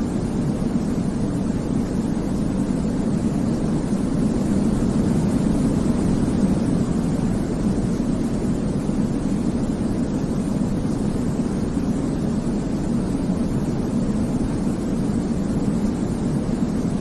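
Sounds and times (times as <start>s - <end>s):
low rumbling white noise: 0.0s - 17.0s.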